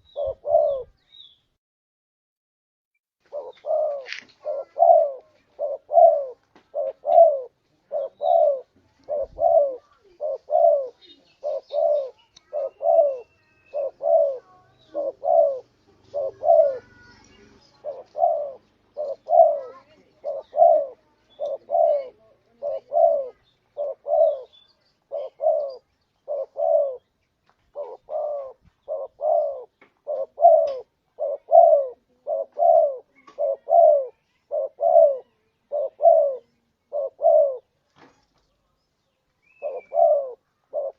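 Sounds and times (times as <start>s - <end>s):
dove cooing: 0.0s - 1.0s, 3.2s - 27.1s, 27.7s - 37.8s, 39.5s - 40.9s.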